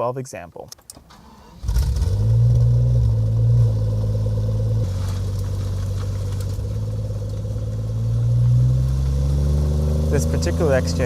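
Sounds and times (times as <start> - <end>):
car engine idling: 1.1 - 11.0.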